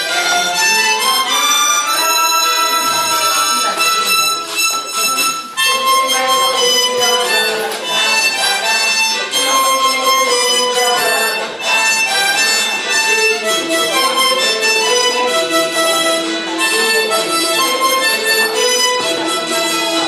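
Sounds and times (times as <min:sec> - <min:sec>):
harmonica playing slow melody: 0:00.0 - 0:20.0.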